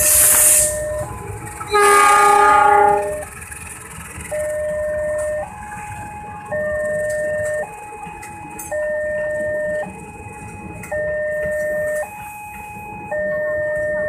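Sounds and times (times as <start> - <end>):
train coaches rumbling: 0.0 - 14.0
level crossing two-tone alarm: 0.6 - 1.2, 2.3 - 3.3, 4.3 - 14.0.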